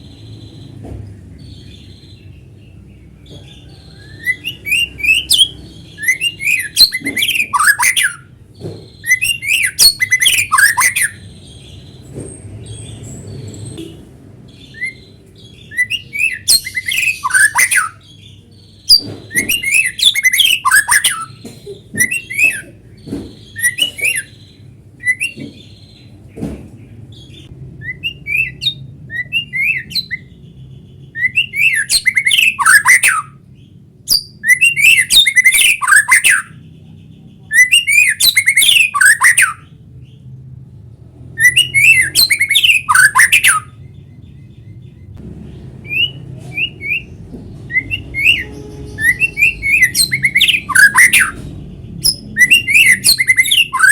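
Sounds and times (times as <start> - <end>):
bird singing: 0.0 - 40.6, 41.2 - 53.9.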